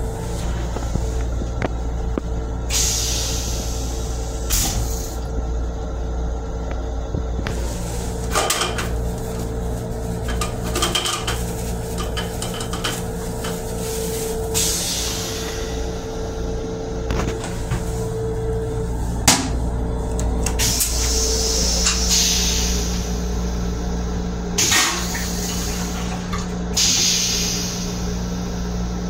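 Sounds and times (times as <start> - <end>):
railcar low rumble and hum: 0.0 - 29.0.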